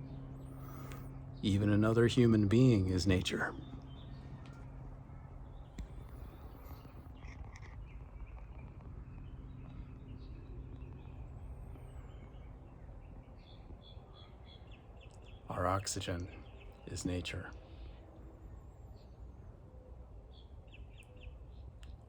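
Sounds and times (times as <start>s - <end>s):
faint bird chirps: 0.0s - 22.0s
low even hum: 0.0s - 22.0s.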